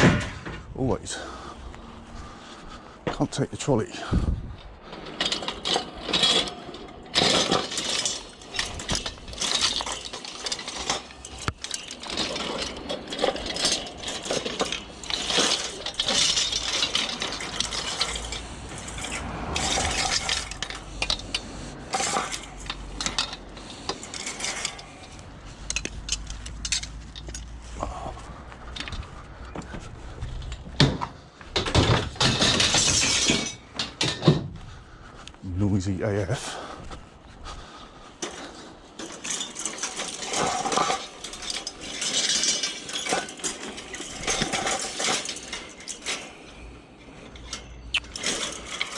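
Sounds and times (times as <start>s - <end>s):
scrap metal clanking: 0.0s - 34.7s, 38.1s - 48.9s.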